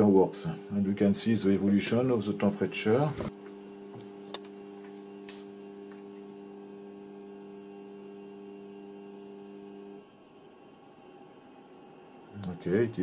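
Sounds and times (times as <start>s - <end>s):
mains hum from power supply: 0.0s - 13.0s.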